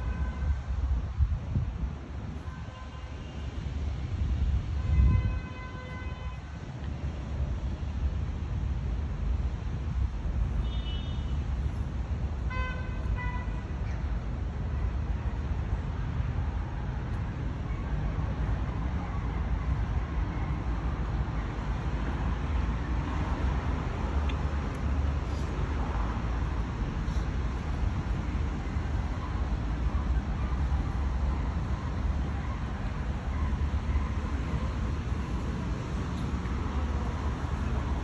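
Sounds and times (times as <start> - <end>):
city traffic rumble: 0.0 - 38.0.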